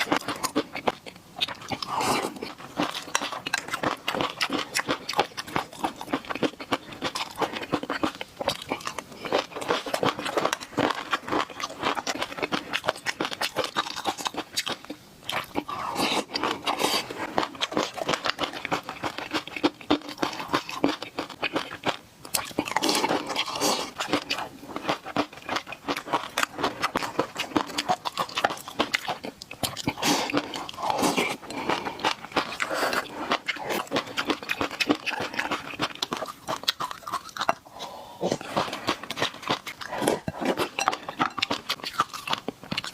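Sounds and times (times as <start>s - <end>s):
person chewing: 0.0s - 42.9s.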